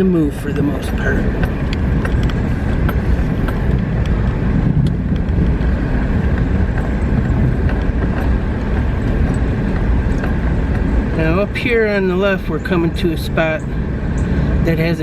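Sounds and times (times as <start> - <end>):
tyres rumbling on gravel road: 0.0 - 15.0.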